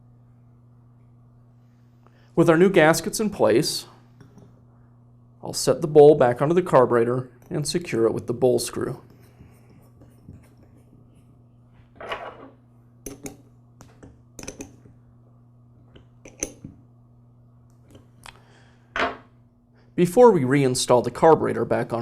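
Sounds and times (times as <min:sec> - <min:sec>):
low hum: 0:00.0 - 0:20.4.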